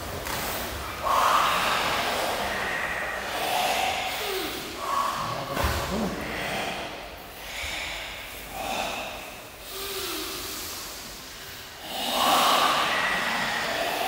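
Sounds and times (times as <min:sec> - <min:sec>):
group breathing forcefully: 0:00.0 - 0:14.0.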